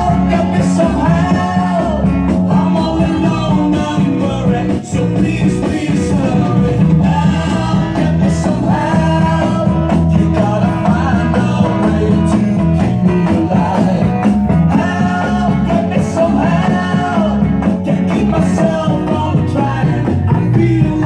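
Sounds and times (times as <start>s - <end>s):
rock and roll song through speaker: 0.0s - 21.0s.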